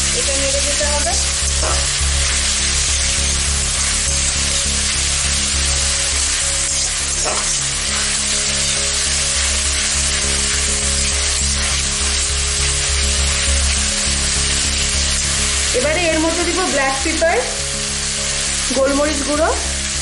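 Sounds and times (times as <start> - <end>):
vegetables sizzling in a wok: 0.0 - 20.0.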